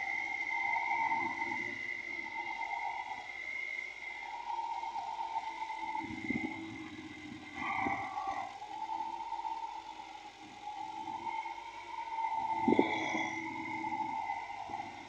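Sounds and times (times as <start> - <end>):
mechanical whine: 0.0 - 15.0.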